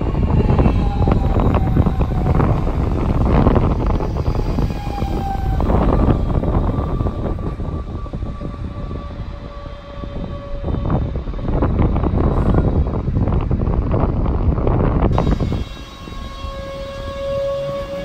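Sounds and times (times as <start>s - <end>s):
train drive whining: 0.0s - 18.0s
train rumble and rail noise: 0.0s - 18.0s.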